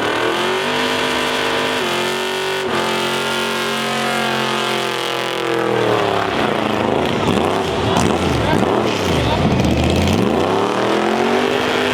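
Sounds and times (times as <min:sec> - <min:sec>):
car engine at high revs: 0:00.0 - 0:11.9.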